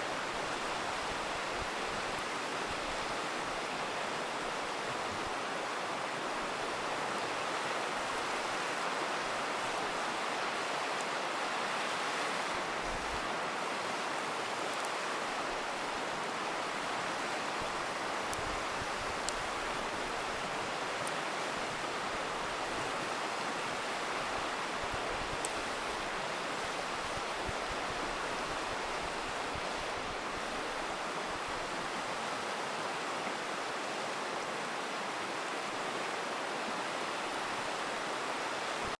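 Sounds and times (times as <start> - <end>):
faint campfire crackles: 0.0 - 39.0
river rushing: 0.0 - 39.0.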